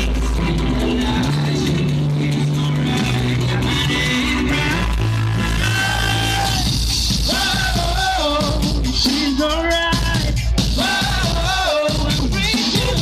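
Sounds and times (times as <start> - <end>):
backing track with heavy bass: 0.0 - 13.0
male vocal group singing: 0.0 - 13.0.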